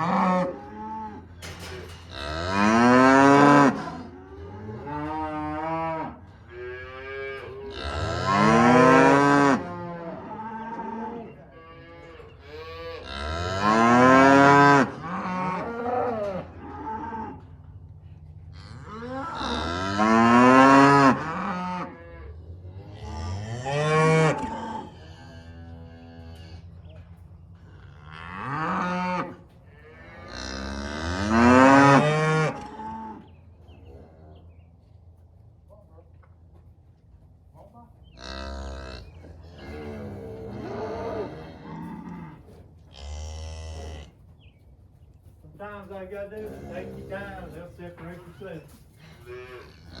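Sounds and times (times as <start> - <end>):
cattle mooing: 0.0 - 17.6, 18.5 - 26.8, 27.6 - 34.3, 38.2 - 44.1, 46.4 - 50.0.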